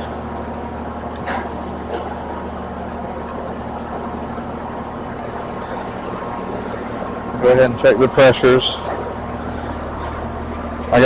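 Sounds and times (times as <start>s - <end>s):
heat pump humming: 0.0s - 11.0s.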